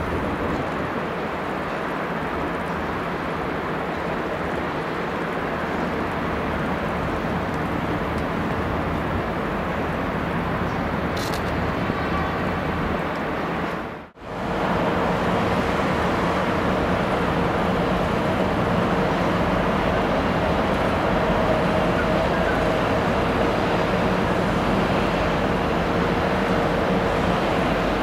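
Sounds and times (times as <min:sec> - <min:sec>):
city traffic noise: 0:00.0 - 0:28.0.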